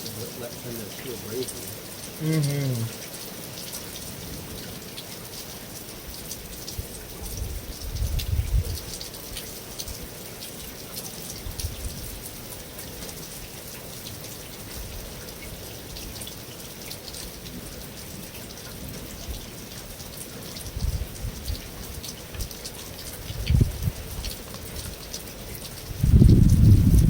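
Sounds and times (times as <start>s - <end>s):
rain on a metal roof: 0.0s - 27.0s.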